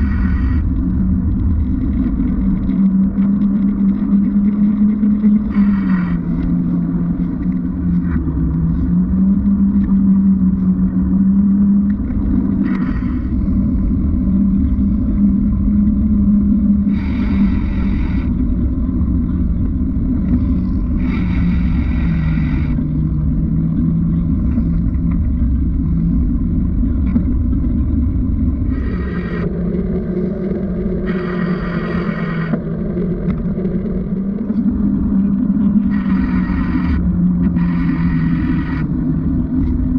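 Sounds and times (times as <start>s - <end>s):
low hum: 0.0s - 39.9s
muffled wind and road noise: 0.0s - 39.9s.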